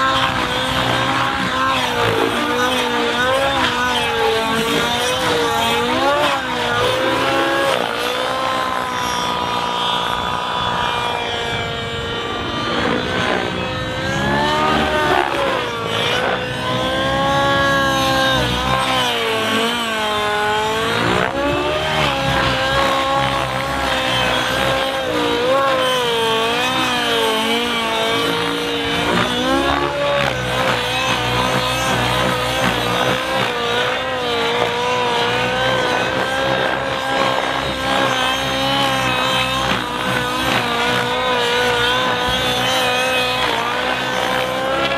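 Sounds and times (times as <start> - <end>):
model helicopter engine running: 0.0 - 44.9.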